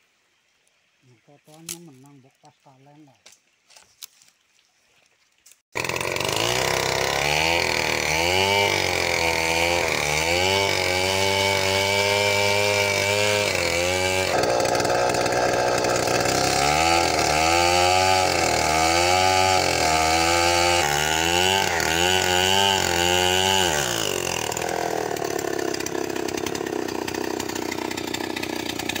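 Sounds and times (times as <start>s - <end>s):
chainsaw cutting wood: 5.7s - 29.0s.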